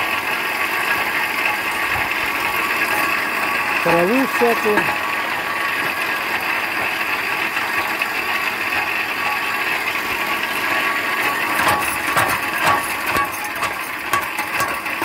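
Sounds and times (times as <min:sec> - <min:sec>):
branch shredder cutting: 0:00.0 - 0:15.0.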